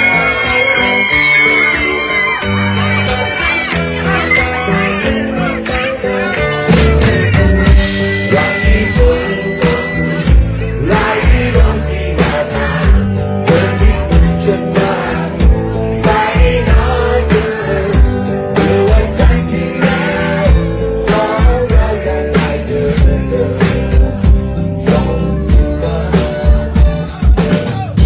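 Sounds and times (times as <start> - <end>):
drum kit beat: 0.0 - 28.0
guitars playing: 0.0 - 28.0
person singing: 0.0 - 28.0.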